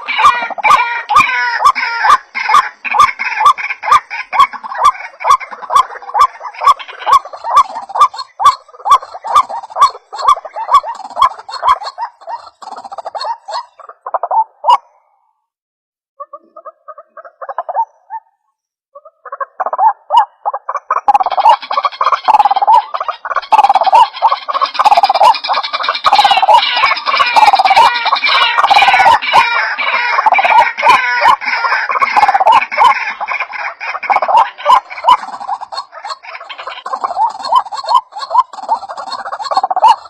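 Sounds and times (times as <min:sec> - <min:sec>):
waterhen calling: 0:00.0 - 0:15.2, 0:19.0 - 0:40.0.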